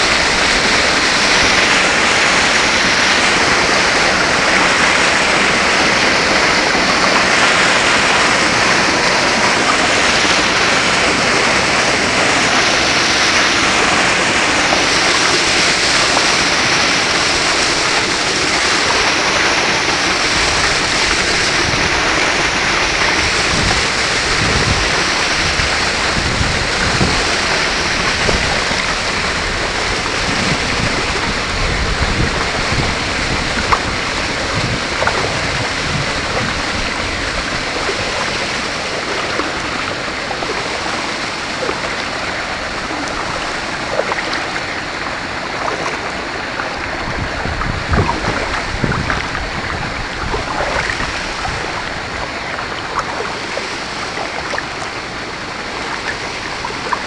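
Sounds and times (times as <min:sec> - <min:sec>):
water rushing past kayak: 0:00.0 - 0:57.0
wind noise on microphone: 0:00.0 - 0:57.0.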